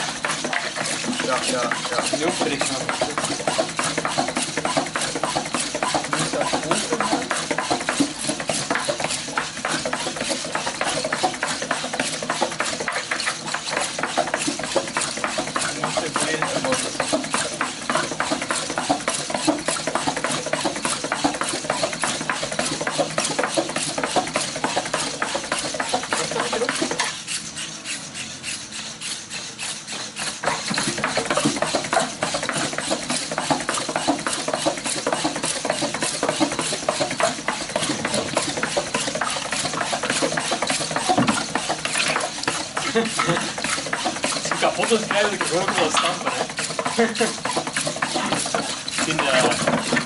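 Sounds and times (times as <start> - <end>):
robot feet clattering on mat: 0.0 - 28.6, 29.3 - 50.0.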